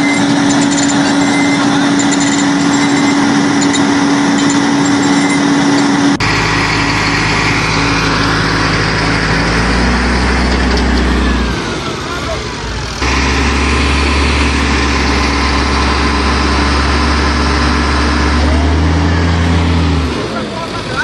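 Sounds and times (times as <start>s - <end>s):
diesel truck engines under load: 0.0s - 21.0s.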